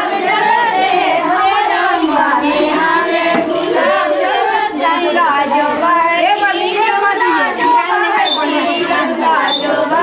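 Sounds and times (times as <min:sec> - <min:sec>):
people talking: 0:00.0 - 0:10.0
women singing together: 0:00.0 - 0:10.0.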